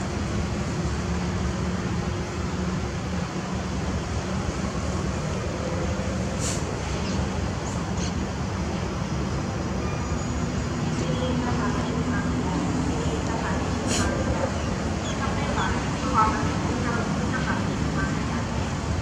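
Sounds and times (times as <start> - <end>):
diesel locomotive engine humming: 0.0 - 19.0.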